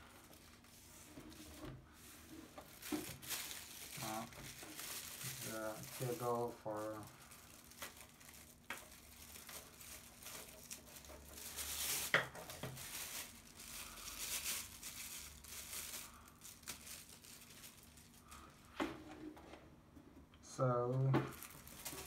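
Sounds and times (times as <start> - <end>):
packaging crinkling and rustling: 0.0 - 19.2, 20.7 - 22.0.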